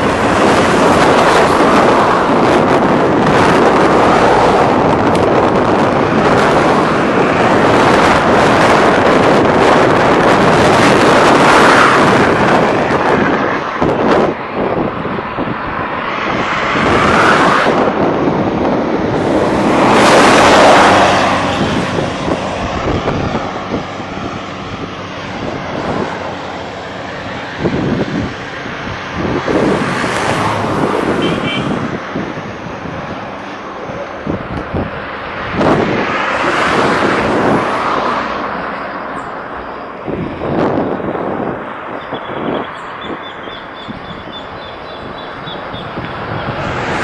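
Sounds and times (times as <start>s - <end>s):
road noise from moving vehicle: 0.0s - 47.0s
wind buffeting microphone: 0.0s - 47.0s.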